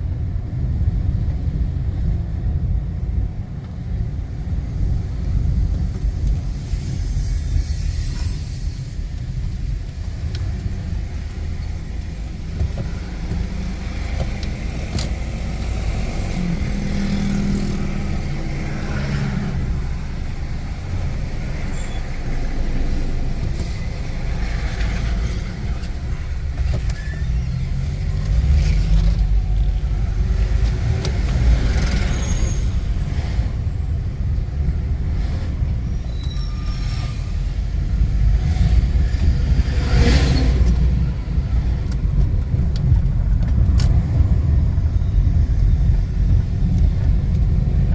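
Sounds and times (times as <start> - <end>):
vehicle engine and road rumble: 0.0 - 47.9.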